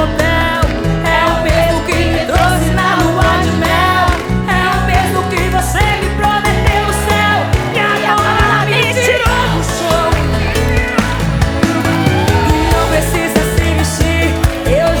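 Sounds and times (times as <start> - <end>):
woman singing: 0.0 - 11.2, 11.9 - 15.0
band accompaniment with bass: 0.0 - 15.0.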